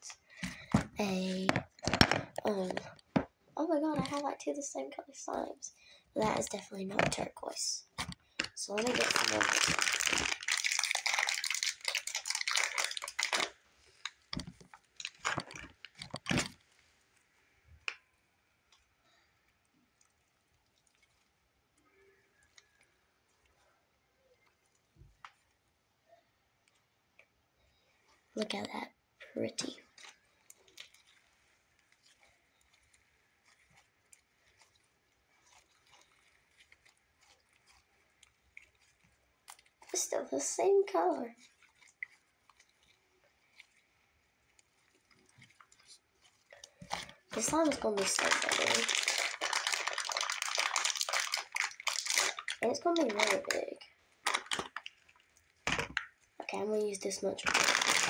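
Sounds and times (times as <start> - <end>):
slime clicking and crackling: 0.0 - 4.4, 6.2 - 25.8, 26.6 - 58.0
crinkling and rustling: 0.0 - 5.4, 6.1 - 58.0.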